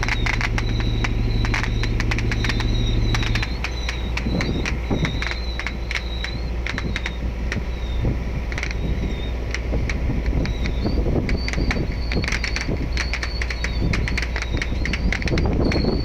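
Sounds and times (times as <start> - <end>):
boat engine drone: 0.0 - 16.0
faint high wavering squeaks: 0.0 - 16.0
sharp clicks: 0.0 - 16.0
water noise: 0.0 - 16.0
wind noise: 0.0 - 16.0.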